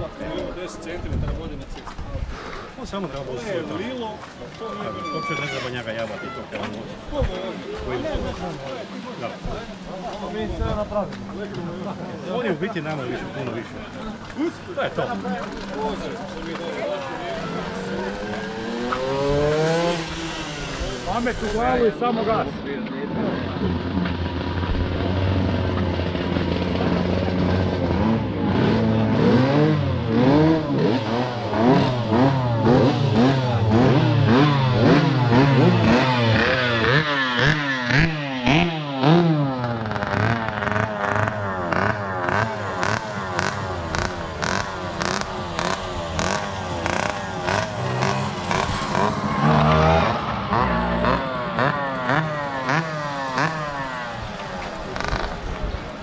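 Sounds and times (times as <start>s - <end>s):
mopeds engines revving: 2.3s - 56.0s.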